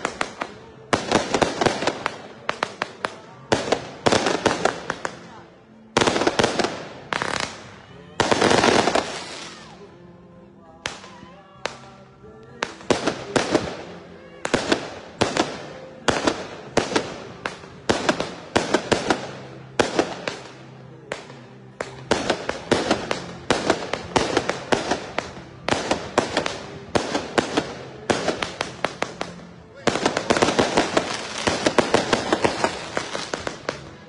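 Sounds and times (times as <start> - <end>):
firecrackers banging: 0.0 - 9.6, 11.7 - 34.0.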